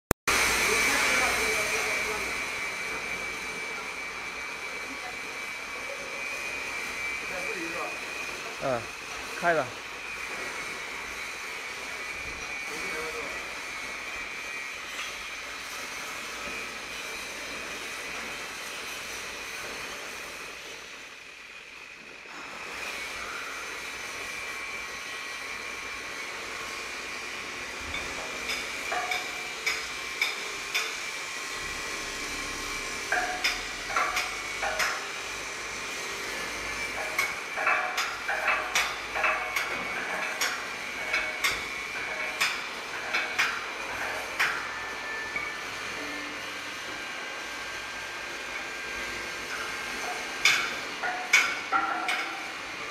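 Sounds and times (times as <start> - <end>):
machine high whine: 0.3 - 52.9.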